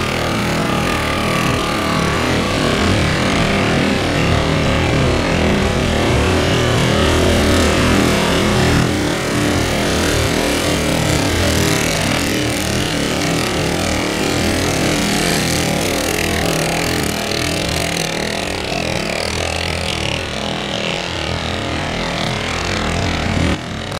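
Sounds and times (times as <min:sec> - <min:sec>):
go-kart engines droning: 0:00.0 - 0:23.9.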